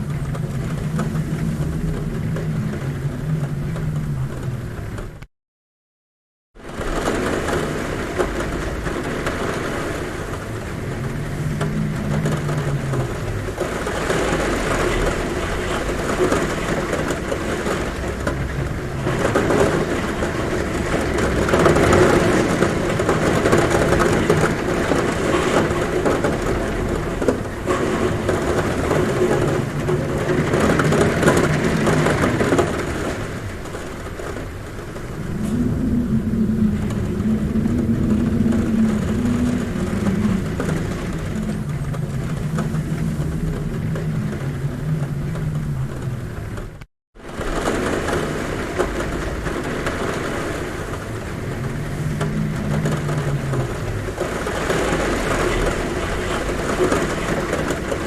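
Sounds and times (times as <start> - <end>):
heavy rain on a roof: 0.0 - 5.3, 6.6 - 58.0
wind humming at a window: 0.0 - 5.3, 6.6 - 58.0.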